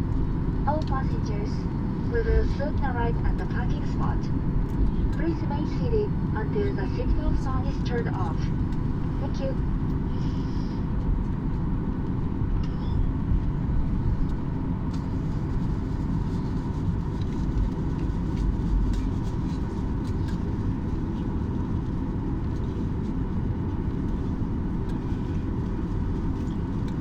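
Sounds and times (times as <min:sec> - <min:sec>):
airliner cabin rumble: 0:00.0 - 0:27.0
faint steady whine: 0:00.0 - 0:27.0.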